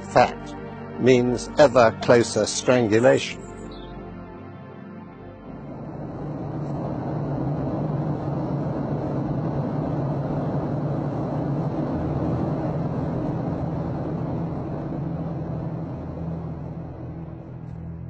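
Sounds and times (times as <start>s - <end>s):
deep hum: 0.0s - 18.0s
jet engines droning: 0.0s - 18.0s.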